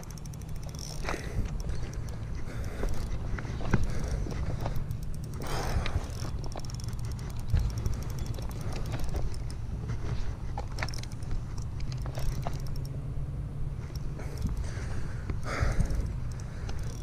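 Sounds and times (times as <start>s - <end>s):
fishing reel clicking: 0.0s - 12.9s, 13.8s - 17.0s.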